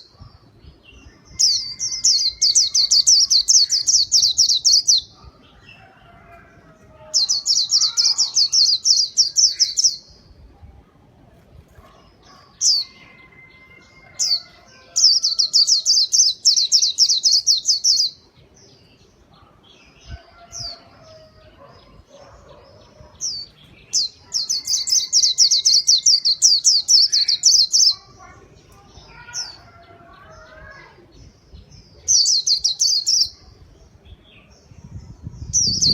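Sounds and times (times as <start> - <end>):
small bird singing: 0.0 - 10.6, 11.6 - 35.9.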